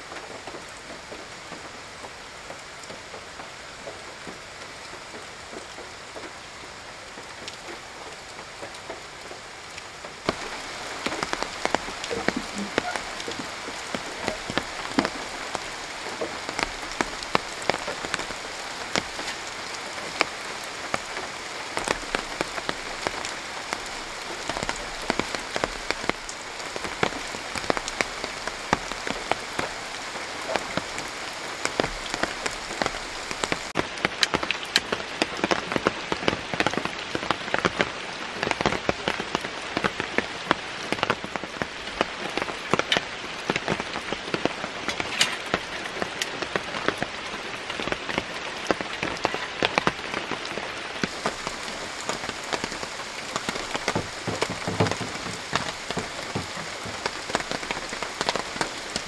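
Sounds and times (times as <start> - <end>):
raindrops tapping: 0.0 - 59.0
steady rain hiss: 0.0 - 59.0.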